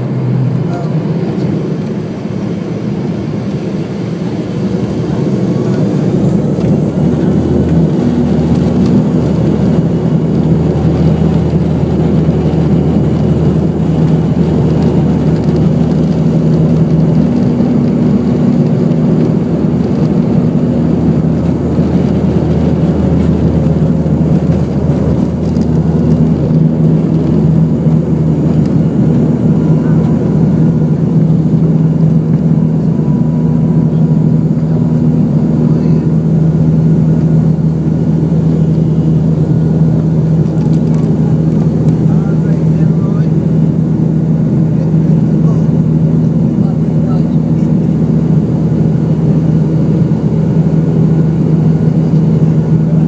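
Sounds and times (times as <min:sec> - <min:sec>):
turboprop engines droning: 0:00.0 - 0:53.0.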